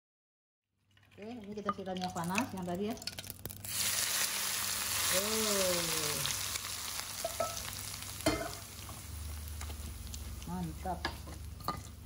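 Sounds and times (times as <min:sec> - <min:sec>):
hot oil sizzling: 0:01.8 - 0:12.0.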